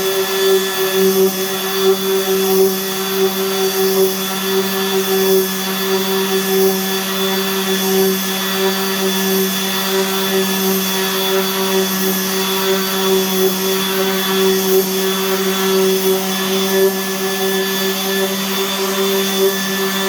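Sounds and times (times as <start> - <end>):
electric sander motor hum: 0.0 - 20.0.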